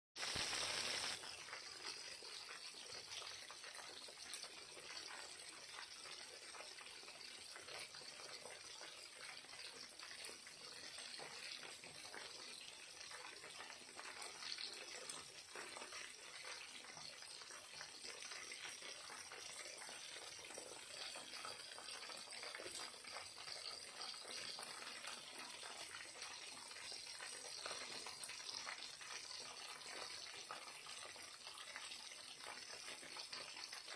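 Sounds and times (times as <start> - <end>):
chicken frying in hot oil: 0.2 - 33.9.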